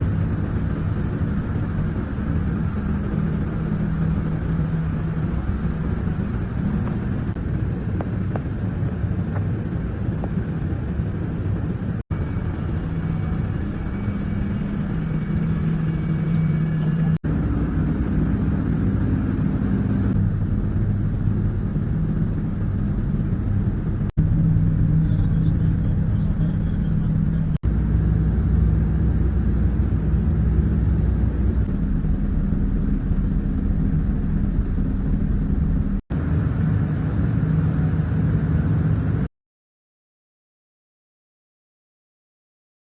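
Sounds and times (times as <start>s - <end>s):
machinery hum and rumble: 0.0s - 39.3s.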